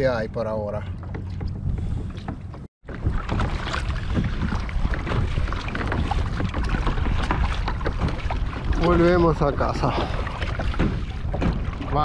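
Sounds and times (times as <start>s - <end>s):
water splashing around kayak: 0.0s - 12.0s
wind rumbling on microphone: 0.0s - 12.0s.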